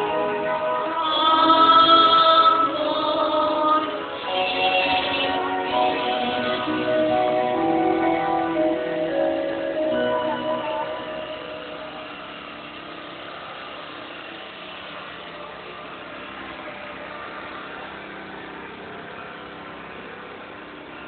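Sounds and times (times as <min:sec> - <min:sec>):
low steady hum: 0:00.0 - 0:21.0
murmur of a large crowd: 0:00.0 - 0:21.0.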